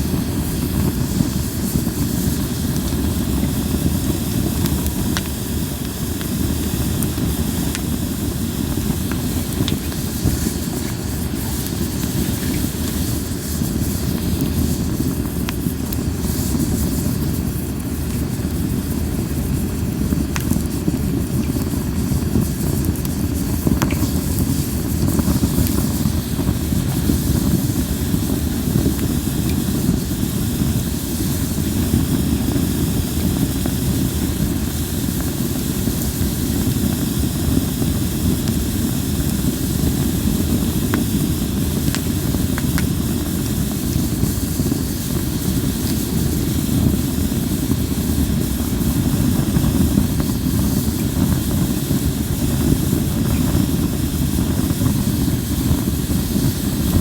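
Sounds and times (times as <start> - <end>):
campfire flames rumbling: 0.0 - 57.0
fire pops: 0.0 - 57.0.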